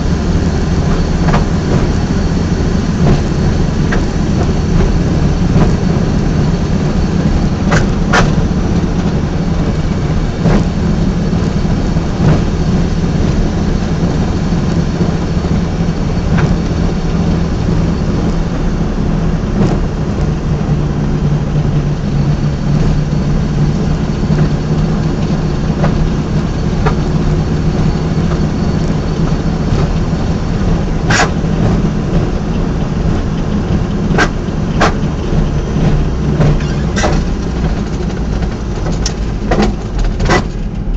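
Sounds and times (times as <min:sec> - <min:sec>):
drivetrain drone: 0:00.0 - 0:40.9.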